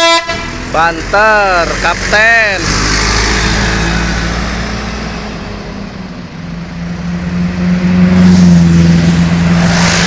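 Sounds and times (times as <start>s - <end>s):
bus engine passing: 0.0s - 10.0s.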